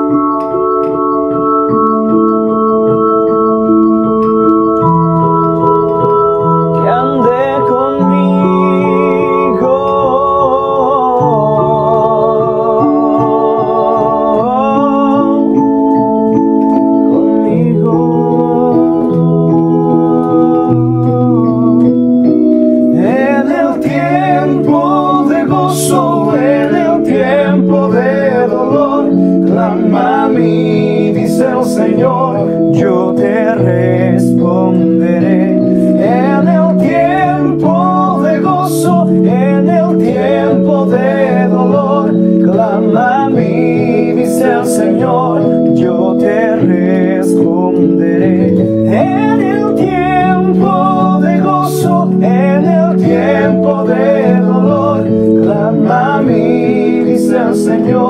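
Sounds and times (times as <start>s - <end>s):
electronic keyboard chords: 0.0s - 58.0s
man singing: 6.7s - 22.0s, 22.8s - 58.0s.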